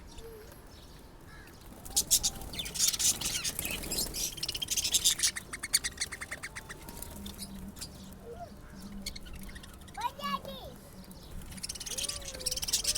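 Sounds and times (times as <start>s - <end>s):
birds chattering: 0.0s - 12.9s.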